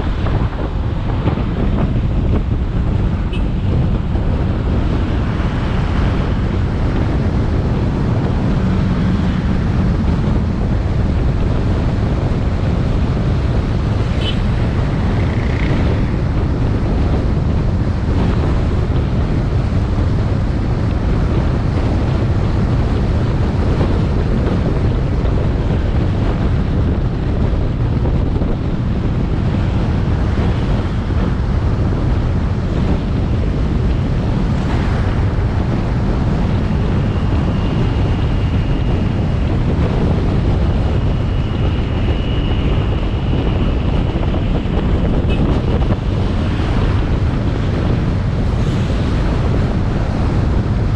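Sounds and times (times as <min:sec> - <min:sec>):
motorbike engine and road noise: 0:00.0 - 0:50.9
wind buffeting microphone: 0:00.0 - 0:50.9.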